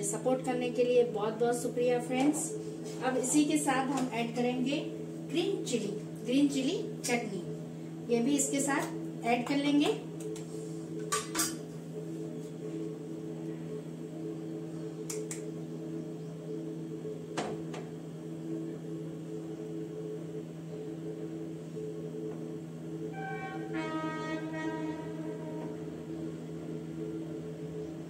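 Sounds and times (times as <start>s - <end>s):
low hum of held tones: 0.0s - 28.0s.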